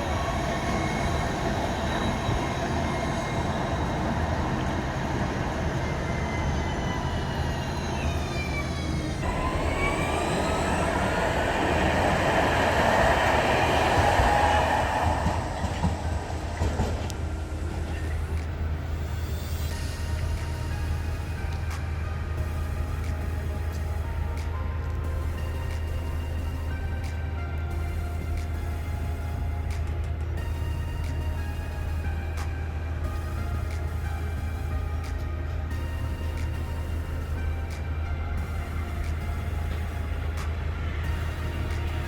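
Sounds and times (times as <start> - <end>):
low rumble of tram running: 0.0 - 42.0
tram electric motors whining: 0.0 - 42.0.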